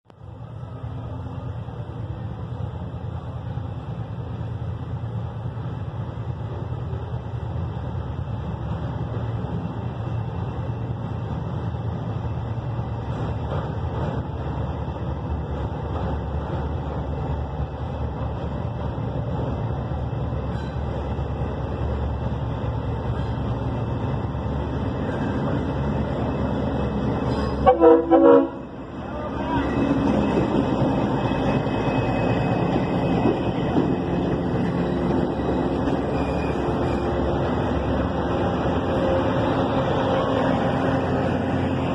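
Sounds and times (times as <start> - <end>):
locomotive engine rumble: 0.1 - 41.9
train cars running noise: 0.1 - 41.9.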